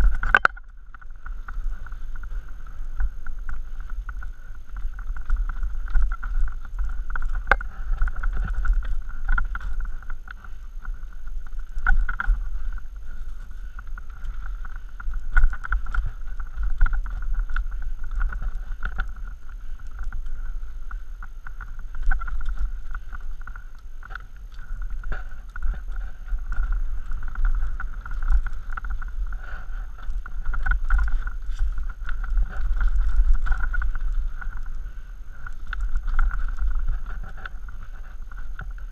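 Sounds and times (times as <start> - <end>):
bike rattling over rocks: 0.0 - 38.9
wind rumble on microphone: 0.0 - 38.9.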